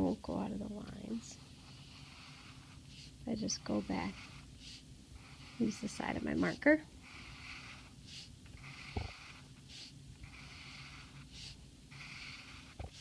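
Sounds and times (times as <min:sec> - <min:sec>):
marker strokes on paper: 0:00.0 - 0:13.0.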